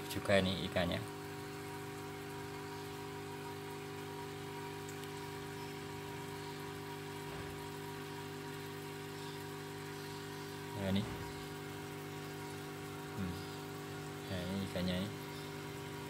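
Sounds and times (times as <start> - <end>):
aquarium filter hum: 0.0 - 16.0
trickling splashing water: 0.0 - 16.0.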